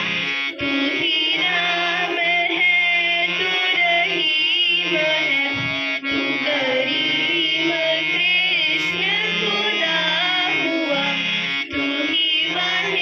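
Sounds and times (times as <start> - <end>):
harmonium notes: 0.0 - 13.0
person singing: 0.0 - 13.0.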